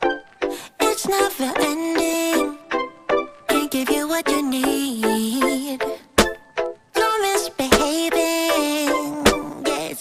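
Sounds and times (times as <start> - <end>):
gliding melody over a beat: 0.0 - 10.0.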